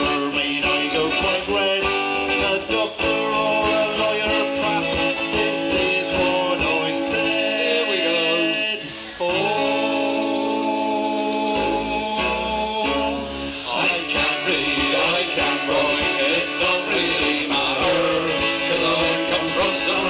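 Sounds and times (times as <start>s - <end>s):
strummed acoustic guitar: 0.0s - 20.0s
melody of long held notes: 1.7s - 20.0s.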